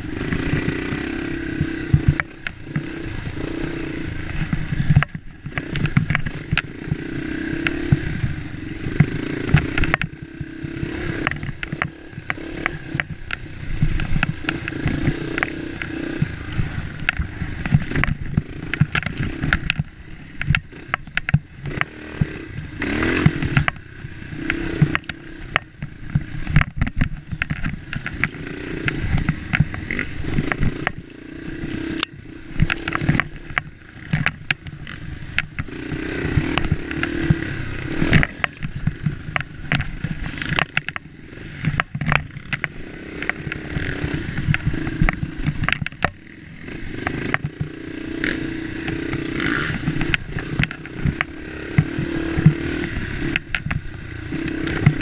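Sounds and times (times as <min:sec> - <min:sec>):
bike clattering over bumps: 0:00.0 - 0:55.0
dirt bike engine revving: 0:00.0 - 0:55.0.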